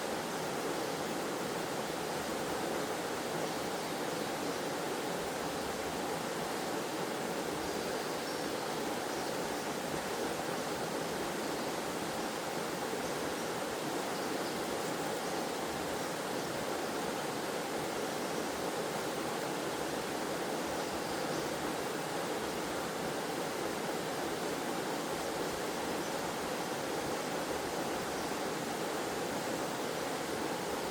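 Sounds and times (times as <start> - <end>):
waterfall water rushing: 0.0 - 30.9.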